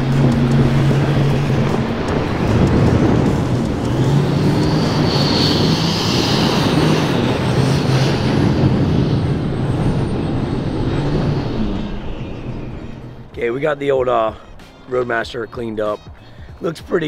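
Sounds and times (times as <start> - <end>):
tires churning gravel: 0.0 - 17.0
truck engine running loud: 0.0 - 17.0.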